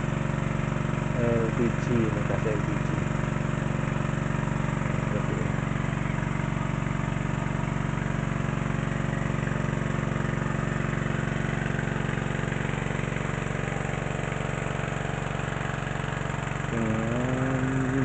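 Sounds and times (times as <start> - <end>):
water pump engine running: 0.0 - 18.0.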